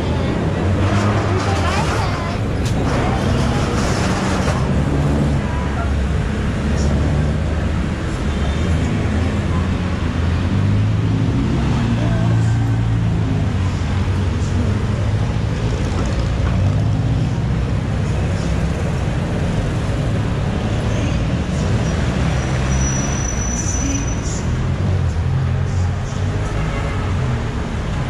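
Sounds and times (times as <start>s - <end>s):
people's voices: 0.0s - 28.0s
traffic engines humming: 0.0s - 28.0s.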